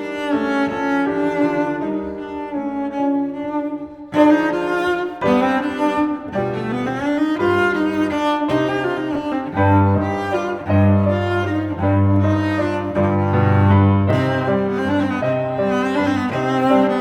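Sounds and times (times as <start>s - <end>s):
cello-like melody: 0.0s - 17.0s.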